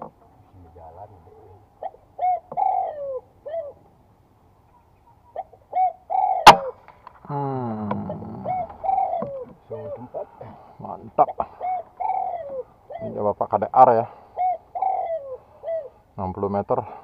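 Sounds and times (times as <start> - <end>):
doves calling: 0.0 - 17.0.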